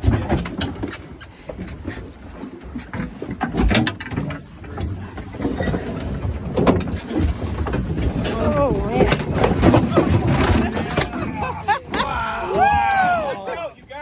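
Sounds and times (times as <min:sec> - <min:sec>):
knocks and clatter at boat rail: 0:00.0 - 0:13.4.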